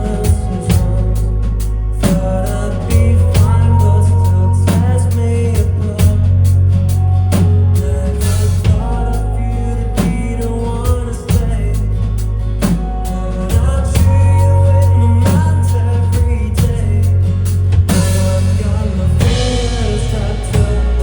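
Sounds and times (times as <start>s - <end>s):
drum kit beat: 0.0s - 9.4s, 10.0s - 21.0s
heavy bass line: 0.0s - 21.0s
person singing: 0.0s - 21.0s.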